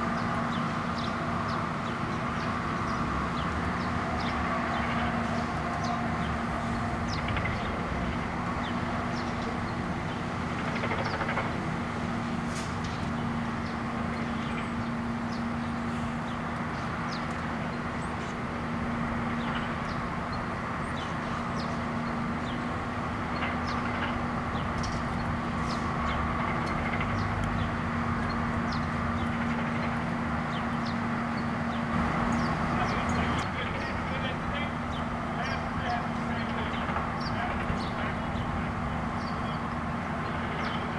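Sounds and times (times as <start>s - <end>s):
small birds chirping: 0.0s - 40.9s
truck engine idling: 0.0s - 40.9s.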